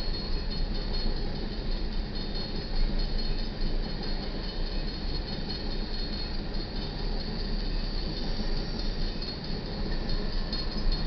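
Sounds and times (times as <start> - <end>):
train wheels clattering on rail: 0.0 - 11.0.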